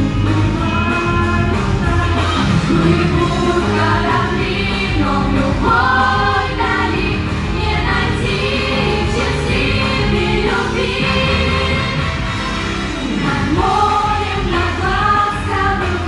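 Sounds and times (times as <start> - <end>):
instrumental backing track: 0.0 - 16.0
young voices singing in chorus: 1.3 - 12.4, 13.1 - 16.0.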